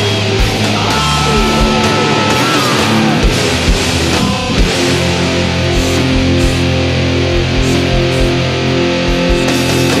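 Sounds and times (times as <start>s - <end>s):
distorted electric guitars: 0.0s - 10.0s.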